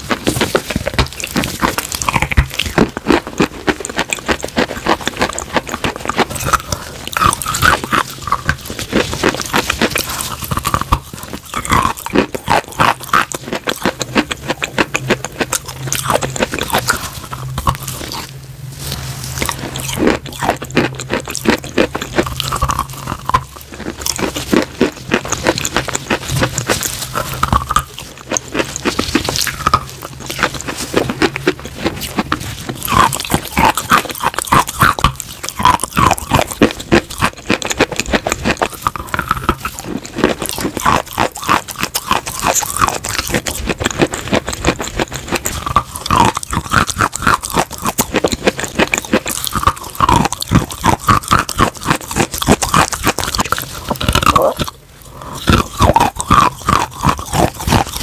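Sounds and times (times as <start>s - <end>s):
crunching and chewing: 0.0s - 58.0s
wet mouth sounds: 0.0s - 58.0s.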